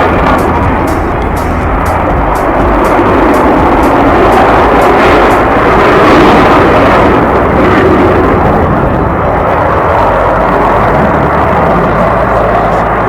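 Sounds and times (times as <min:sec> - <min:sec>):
jet aircraft rushing noise: 0:00.0 - 0:13.0.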